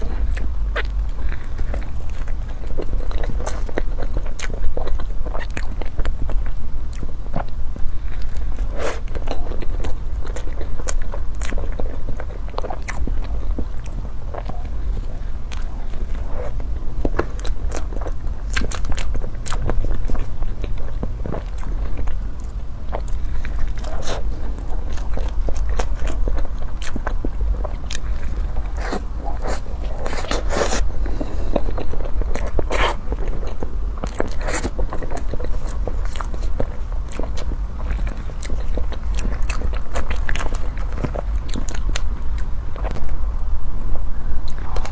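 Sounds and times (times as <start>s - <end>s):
person chewing food: 0.0s - 43.5s, 44.4s - 44.9s.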